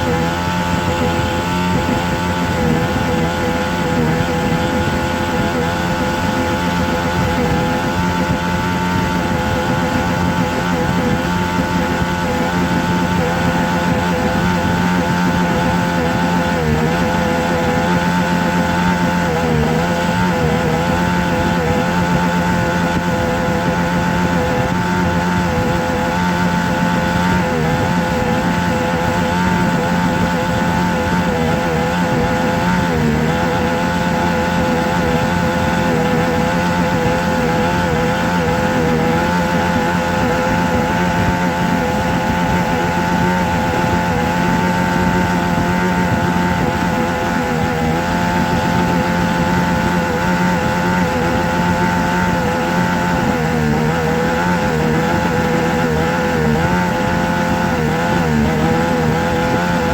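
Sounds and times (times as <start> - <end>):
small motor humming: 0.0 - 59.9.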